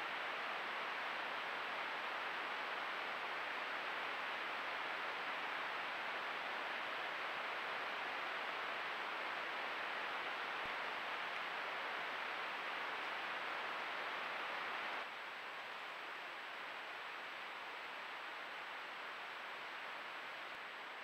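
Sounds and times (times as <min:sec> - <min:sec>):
faint high-pitched whine: 0:00.0 - 0:21.0
steady hiss: 0:00.0 - 0:21.0.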